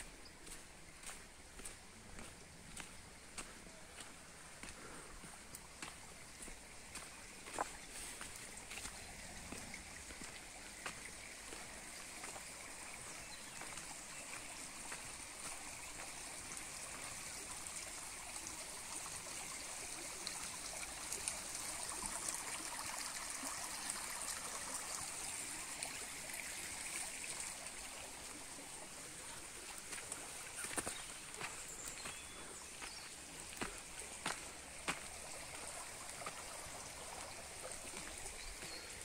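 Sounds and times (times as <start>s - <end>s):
forest stream running water: 0.0s - 39.0s.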